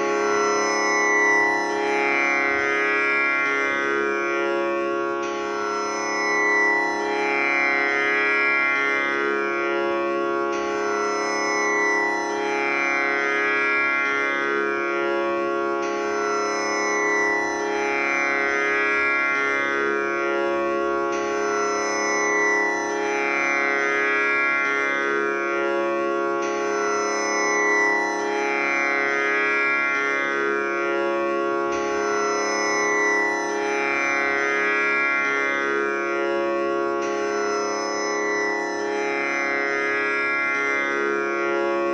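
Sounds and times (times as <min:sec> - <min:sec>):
tanpura drone: 0:00.0 - 0:41.9.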